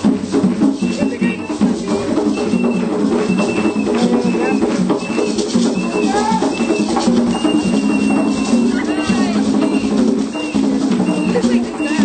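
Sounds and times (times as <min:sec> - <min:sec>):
crowd voices: 0:00.0 - 0:12.0
live percussion music: 0:00.0 - 0:12.0
shakers rattling: 0:00.0 - 0:12.0.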